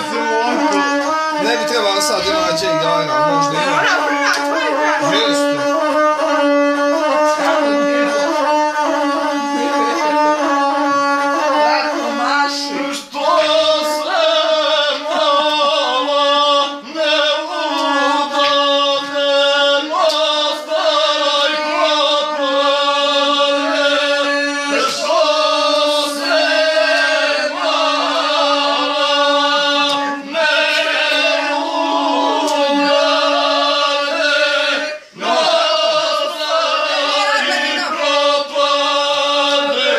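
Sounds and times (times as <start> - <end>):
man singing: 0.0 - 11.4, 12.6 - 39.9
bowed single-string fiddle: 0.0 - 39.9.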